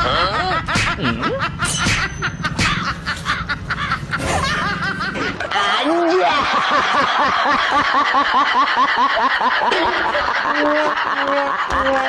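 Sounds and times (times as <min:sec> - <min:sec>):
person snickering and chuckling: 0:00.0 - 0:06.4, 0:07.0 - 0:12.0.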